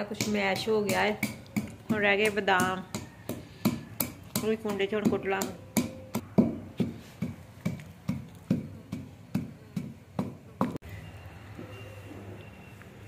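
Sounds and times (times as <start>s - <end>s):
pestle pounding in stone mortar: 0.0s - 10.8s.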